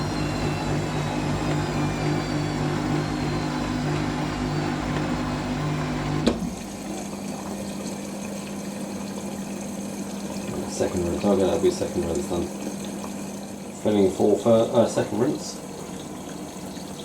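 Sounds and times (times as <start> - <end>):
drain pump humming: 0.0 - 17.0
washing machine motor humming: 0.0 - 17.0.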